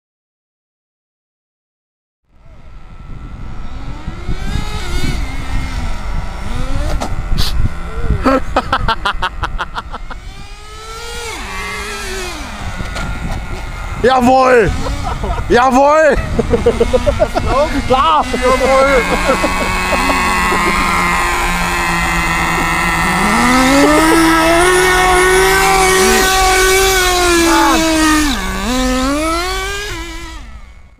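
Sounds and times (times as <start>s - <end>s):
small nitro engine whining: 2.3s - 30.9s
wind rumble on microphone: 2.4s - 30.9s.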